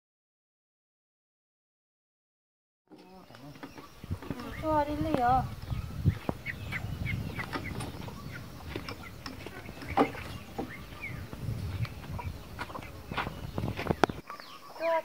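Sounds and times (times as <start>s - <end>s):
chickens clucking: 2.9s - 15.0s.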